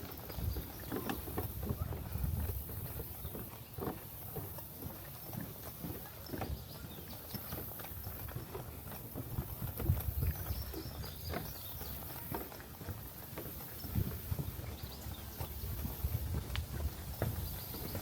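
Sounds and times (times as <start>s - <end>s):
footsteps on a trail: 0.0s - 18.0s.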